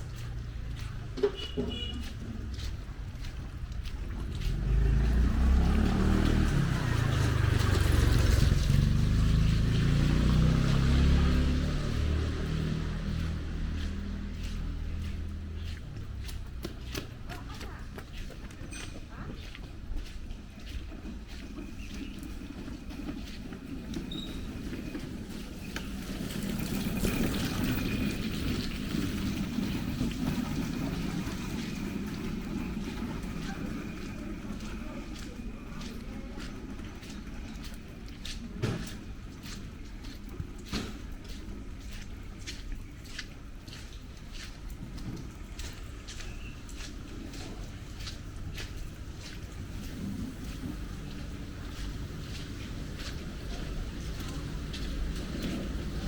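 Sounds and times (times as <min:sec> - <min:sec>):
vehicle engine rumble: 0:00.0 - 0:56.0
tyres hissing on wet road: 0:04.1 - 0:17.8, 0:24.1 - 0:56.0.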